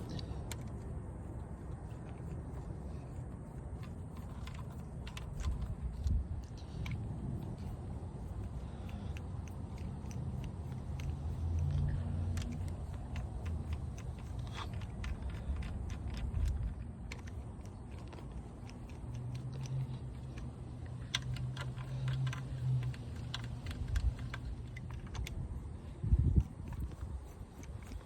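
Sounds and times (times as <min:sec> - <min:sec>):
metal tools clicking and tapping: 0:01.8 - 0:25.8.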